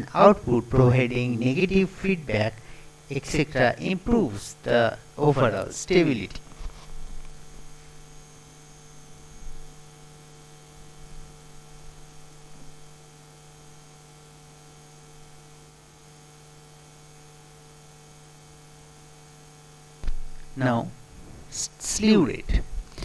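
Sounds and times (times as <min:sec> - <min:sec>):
electrical mains hum: 0:00.0 - 0:23.0
faint high whine: 0:00.0 - 0:23.0.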